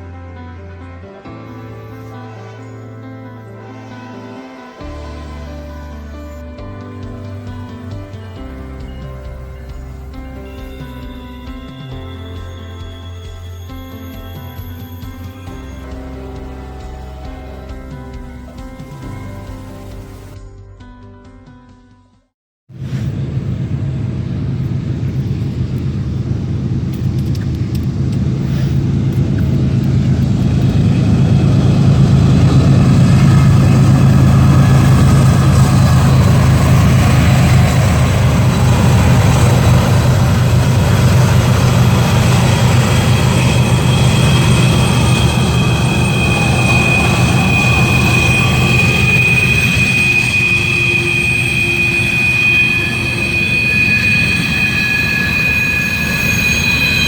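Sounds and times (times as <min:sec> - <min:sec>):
train wheel squeal: 0:00.0 - 0:20.4, 0:27.0 - 0:57.0
freight train rumbling: 0:03.6 - 0:20.4, 0:22.8 - 0:57.0.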